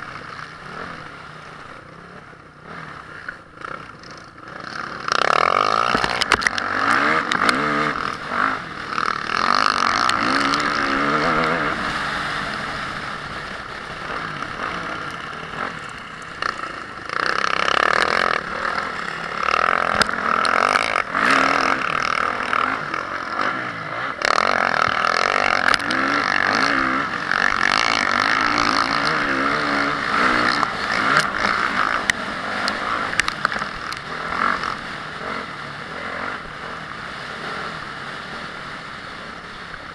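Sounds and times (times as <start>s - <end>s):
motorbike engine revving: 0.0s - 39.9s
steady rushing noise: 0.0s - 39.9s.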